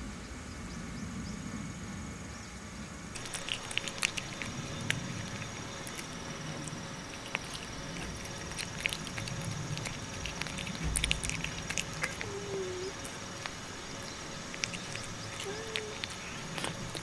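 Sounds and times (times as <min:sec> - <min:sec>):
cat chewing food: 0:03.1 - 0:17.0.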